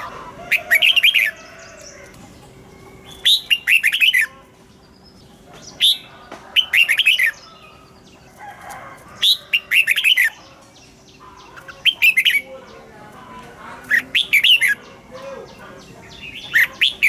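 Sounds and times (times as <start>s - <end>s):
bird singing warbled phrases: 0.0s - 17.0s.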